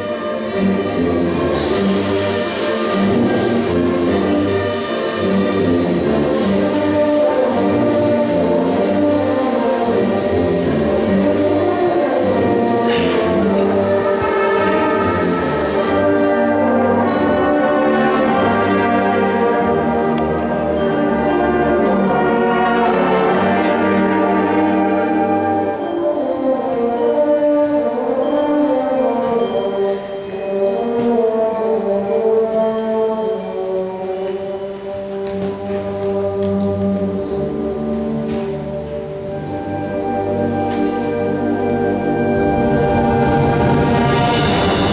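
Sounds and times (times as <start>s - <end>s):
concert band playing: 0.0s - 44.9s
percussion wash: 0.0s - 44.9s.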